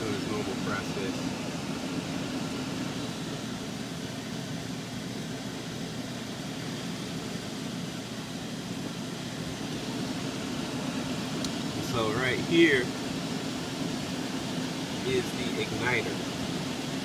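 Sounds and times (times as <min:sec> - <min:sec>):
furnace fan running: 0:00.0 - 0:17.0.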